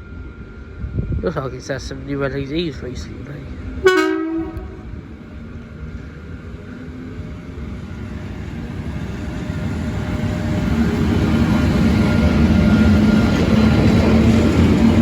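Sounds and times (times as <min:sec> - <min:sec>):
train rumble and hum: 0:00.0 - 0:15.0.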